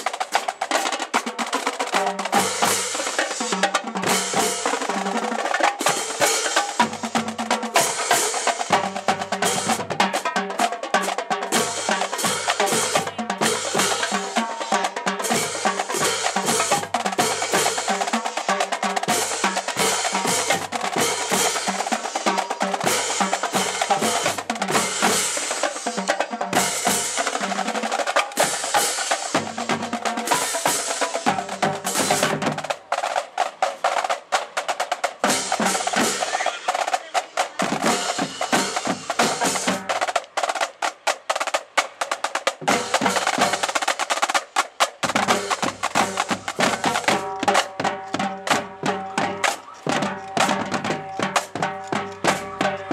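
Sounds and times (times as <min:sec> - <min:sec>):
snare drums: 0:00.0 - 0:52.9
tenor drums: 0:00.0 - 0:52.9.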